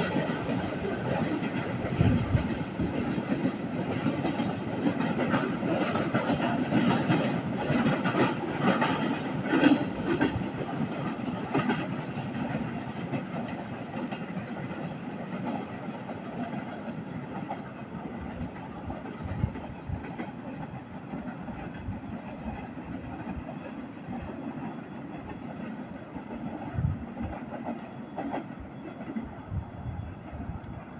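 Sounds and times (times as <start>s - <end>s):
freight train wheels clattering: 0.0s - 30.9s.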